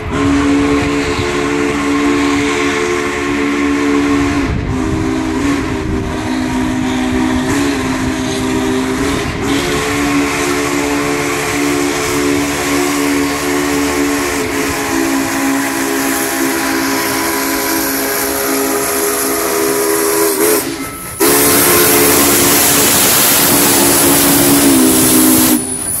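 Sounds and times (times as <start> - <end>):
steam hissing: 0.0 - 26.0
steam locomotive whistle blasts: 0.0 - 26.0.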